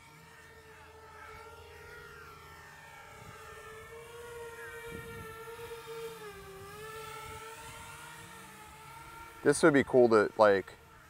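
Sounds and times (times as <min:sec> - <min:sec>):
drone propeller and motor whine: 0:00.0 - 0:11.0.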